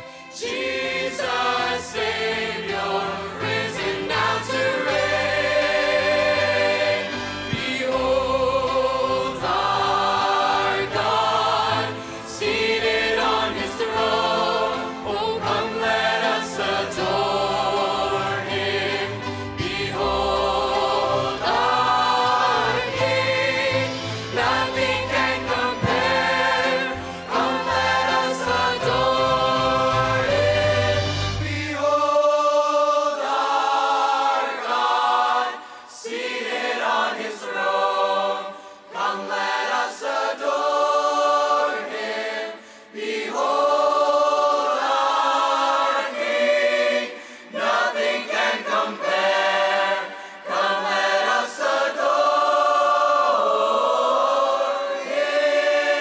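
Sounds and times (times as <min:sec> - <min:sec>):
choir singing a hymn: 0:00.0 - 0:56.0
low musical accompaniment: 0:00.0 - 0:56.0.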